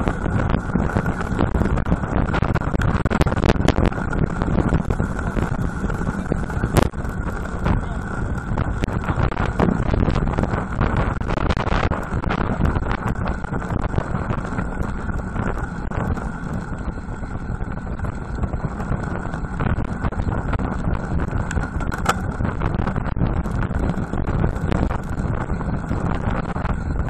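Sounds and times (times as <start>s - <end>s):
low road rumble: 0.0s - 27.0s
wind buffeting microphone: 0.0s - 27.0s.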